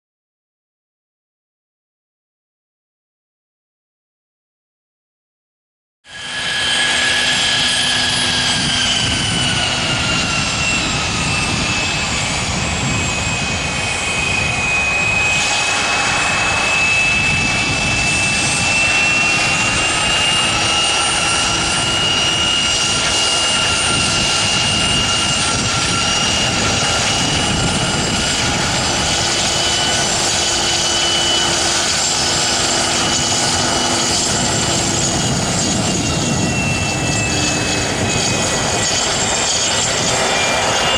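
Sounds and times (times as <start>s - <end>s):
jet engines whining at taxi power: 6.1s - 40.9s.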